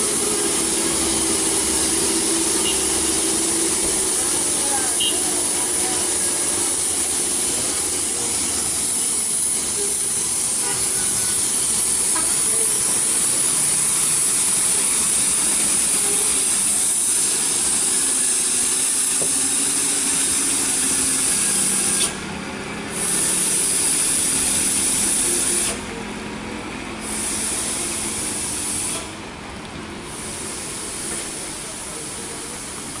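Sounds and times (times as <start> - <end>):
truck engines running: 0.0 - 33.0.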